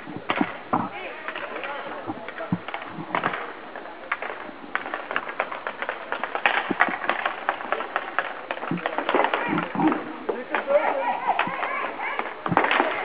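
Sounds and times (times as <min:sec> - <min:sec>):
skate wheels rolling: 0:00.0 - 0:13.0
sticks and puck clacking: 0:00.0 - 0:13.0.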